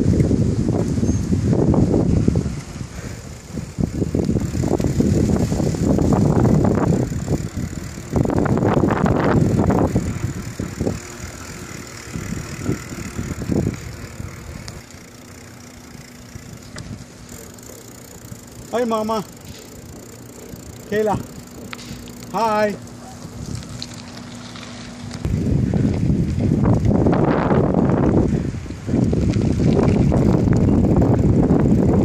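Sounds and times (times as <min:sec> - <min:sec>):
wind gusting on microphone: 0:00.0 - 0:32.0.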